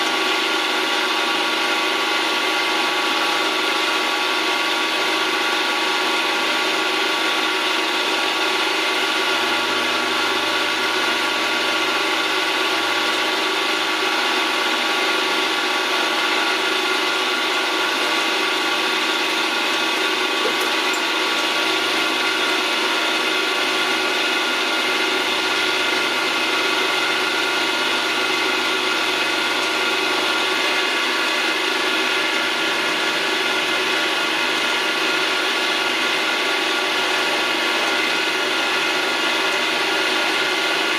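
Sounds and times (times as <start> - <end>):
milling machine whine: 0.0 - 40.9.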